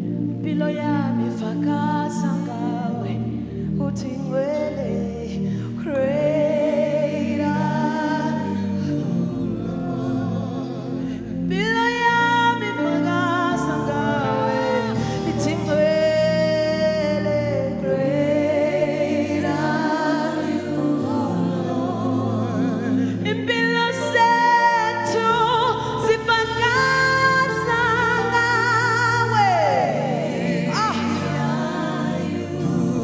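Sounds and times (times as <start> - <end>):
instrumental backing music: 0.0 - 33.0
person singing gospel: 0.0 - 33.0.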